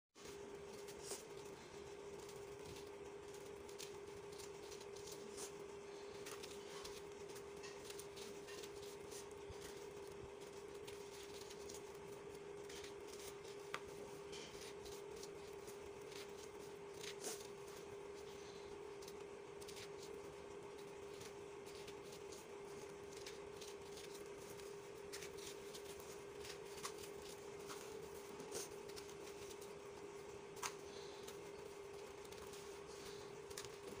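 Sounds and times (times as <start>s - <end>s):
faint steady hum: 0.2s - 34.0s.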